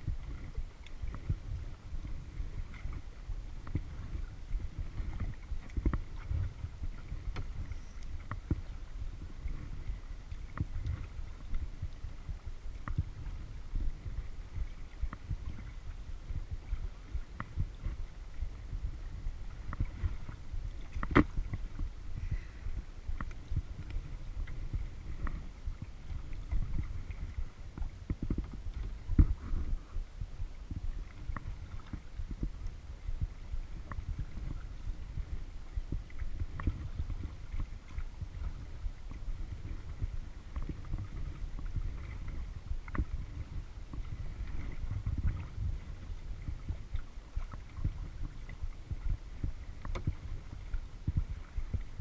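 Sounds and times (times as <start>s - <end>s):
paddle drips: 0.0s - 29.9s, 30.7s - 51.9s
low rumble: 0.0s - 52.0s
water lapping against hull: 0.0s - 52.0s.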